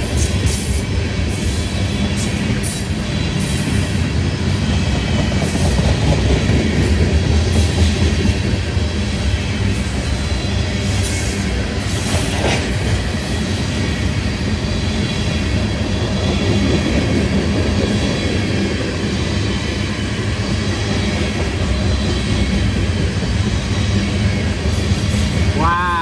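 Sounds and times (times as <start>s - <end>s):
freight cars rumbling on rails: 0.0s - 26.0s.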